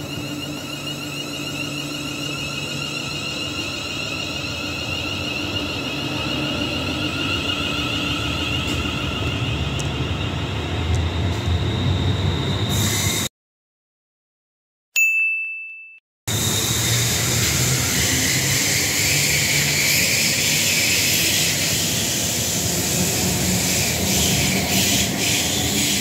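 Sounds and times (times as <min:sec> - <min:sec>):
electric train rumbling past: 0:00.0 - 0:13.3, 0:16.3 - 0:26.0
high whine of train: 0:00.0 - 0:13.3, 0:16.3 - 0:26.0.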